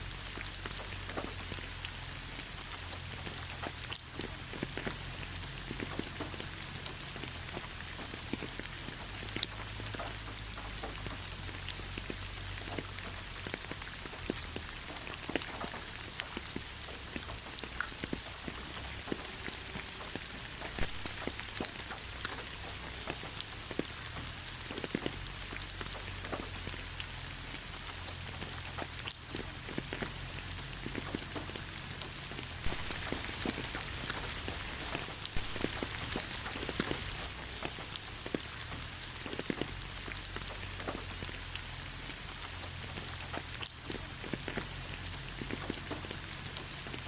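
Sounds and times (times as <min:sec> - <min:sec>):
rain hiss: 0:00.0 - 0:47.0.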